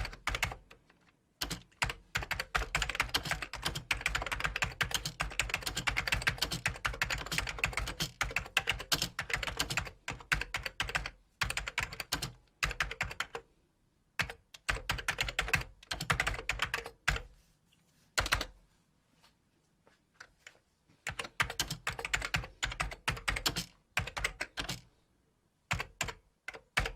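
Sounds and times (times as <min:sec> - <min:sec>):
computer keyboard typing: 0:00.0 - 0:13.5, 0:14.2 - 0:17.3, 0:18.2 - 0:18.5, 0:21.0 - 0:24.9, 0:25.7 - 0:26.9.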